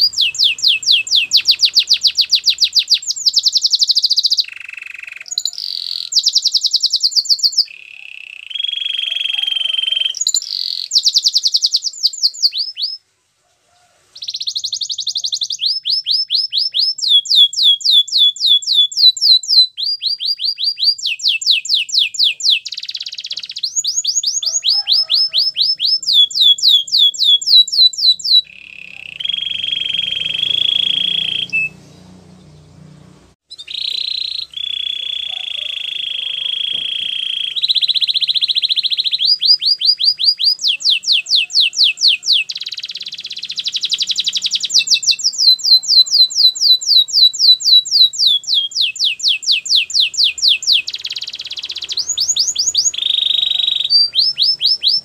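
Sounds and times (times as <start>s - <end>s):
canary singing: 0.0s - 13.0s, 14.1s - 55.0s.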